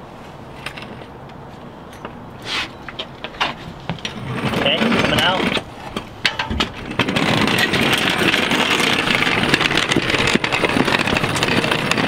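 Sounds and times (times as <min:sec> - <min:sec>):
floor jack rolling on concrete: 0:01.9 - 0:12.0.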